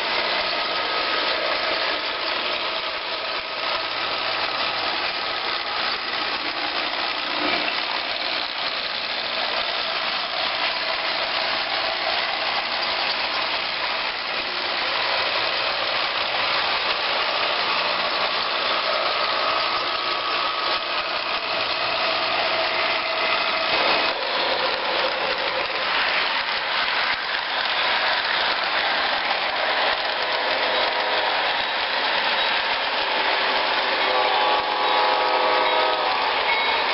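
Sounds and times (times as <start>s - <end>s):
train mechanical hum: 0.0s - 36.9s
train whine: 0.0s - 36.9s.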